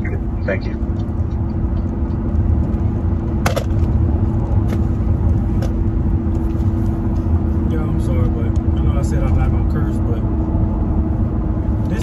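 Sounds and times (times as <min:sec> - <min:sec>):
car cabin rumble and hum: 0:00.0 - 0:12.0.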